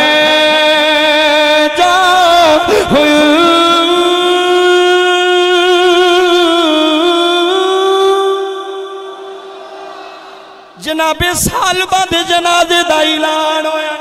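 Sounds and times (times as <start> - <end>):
man chanting: 0.0 - 9.5, 10.8 - 14.0.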